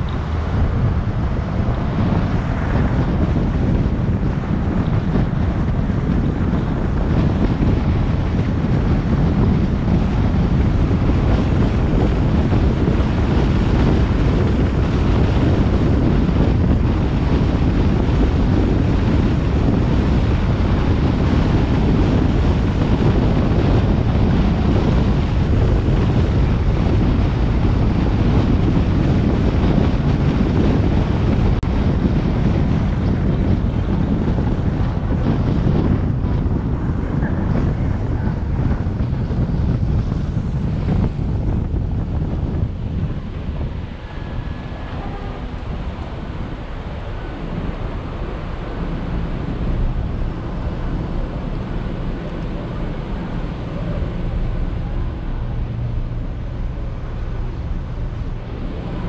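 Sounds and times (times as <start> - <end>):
low road rumble: 0.0 - 59.0
wind rushing over microphone: 0.0 - 59.0.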